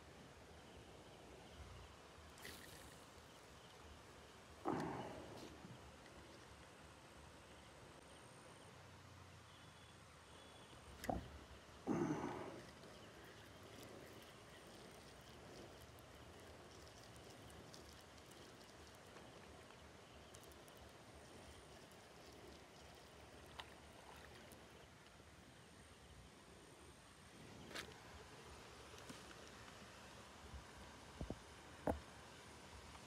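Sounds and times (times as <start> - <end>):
faint outdoor hiss: 0.0 - 33.0.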